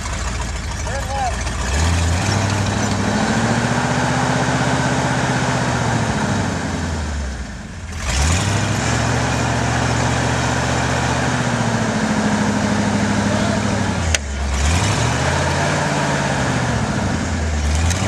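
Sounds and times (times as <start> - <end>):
pickup truck engine revving: 0.0 - 18.0.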